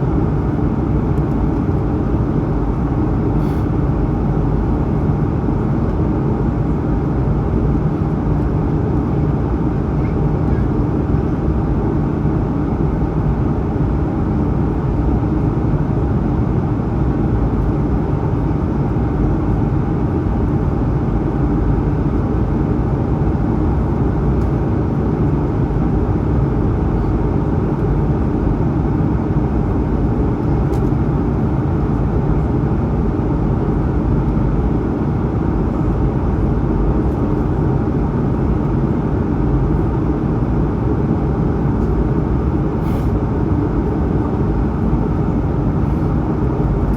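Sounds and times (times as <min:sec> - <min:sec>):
jet engine rumble in cabin: 0:00.0 - 0:46.9.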